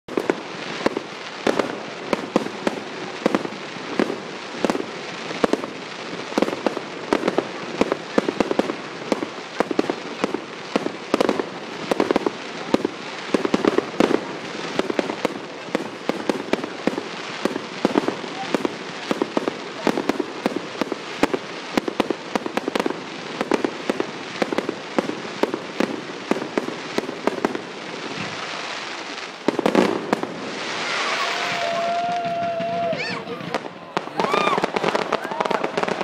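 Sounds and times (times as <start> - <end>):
fireworks bangs and crackles: 0.1 - 36.0.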